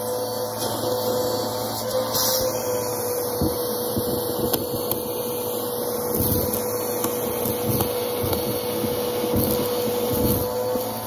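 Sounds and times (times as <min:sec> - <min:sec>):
vacuum cleaner running: 0:00.0 - 0:11.0
vacuum hose sucking up fluff: 0:01.8 - 0:11.0.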